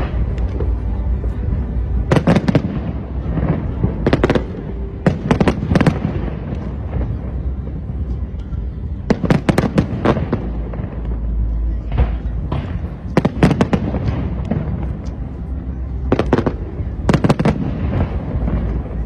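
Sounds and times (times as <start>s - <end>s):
fireworks bursting: 0.0s - 8.3s, 8.9s - 19.0s
steady low rumble: 0.0s - 19.0s.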